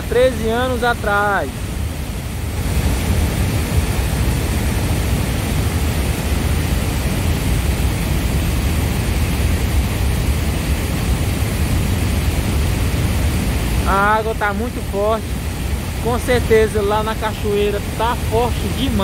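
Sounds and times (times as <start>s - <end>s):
water roaring over dam spillway: 0.0s - 19.0s.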